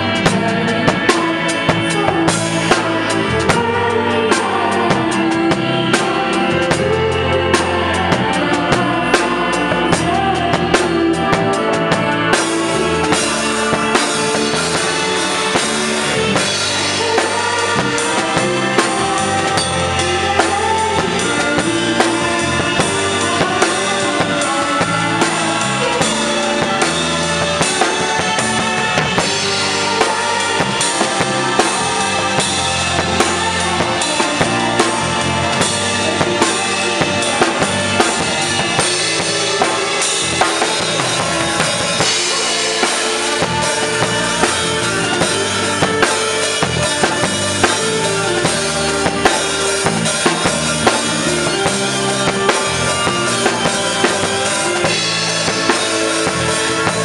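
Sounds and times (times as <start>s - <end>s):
drum kit playing: 0.0s - 57.0s
orchestra and band playing: 0.0s - 57.0s.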